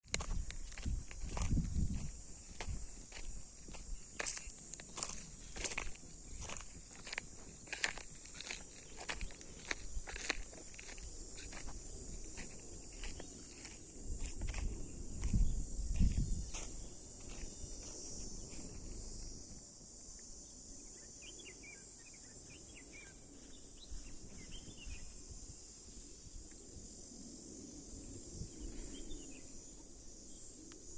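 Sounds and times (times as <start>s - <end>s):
high-pitched insect chorus: 0.0s - 30.9s.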